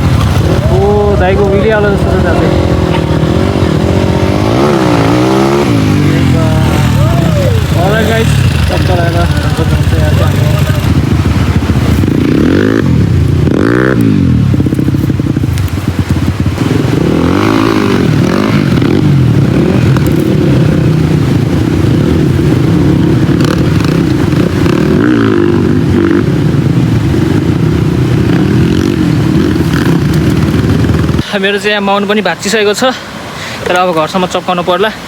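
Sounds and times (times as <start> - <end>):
dirt bike engine revving: 0.0 - 31.2.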